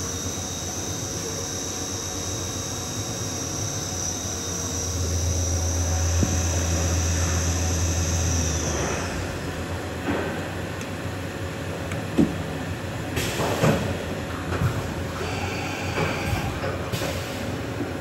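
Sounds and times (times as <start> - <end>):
machine high-pitched whine: 0.0 - 11.8, 12.4 - 18.0.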